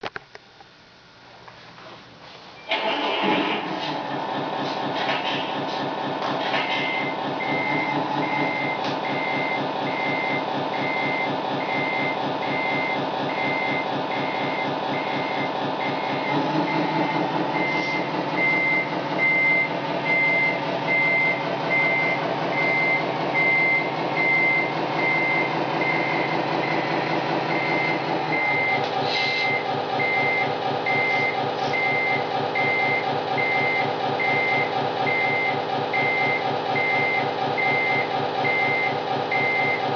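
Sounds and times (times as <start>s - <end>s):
simulated diesel truck engine: 2.5s - 39.9s
reversing beeps: 6.7s - 39.9s.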